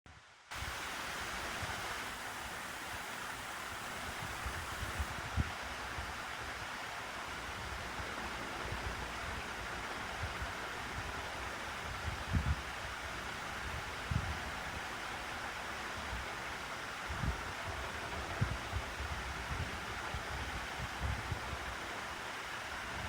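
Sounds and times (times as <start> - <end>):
room fan whooshing: 0.2 - 23.0.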